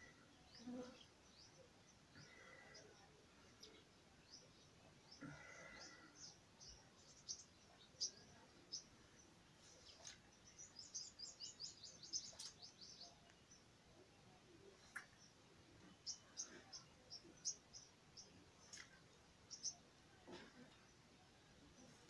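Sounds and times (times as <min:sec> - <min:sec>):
small birds chirping faintly: 0:00.0 - 0:22.0.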